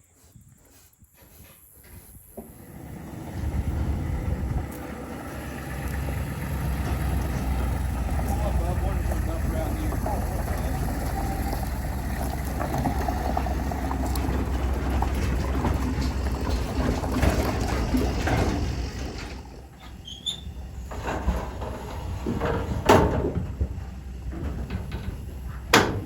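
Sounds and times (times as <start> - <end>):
vehicle engine rumbling: 1.3 - 26.0
metal clanks and knocks: 2.4 - 26.0.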